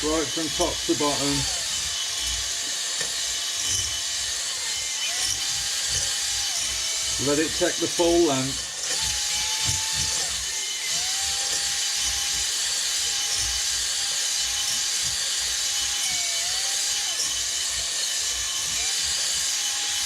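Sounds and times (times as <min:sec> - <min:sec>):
drill motor whine: 0:00.0 - 0:20.0.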